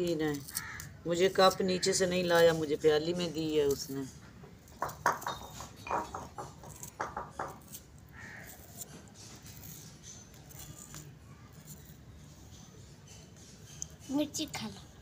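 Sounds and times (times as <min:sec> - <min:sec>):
knife clicking and scraping onion: 0:00.0 - 0:03.9, 0:04.7 - 0:14.7.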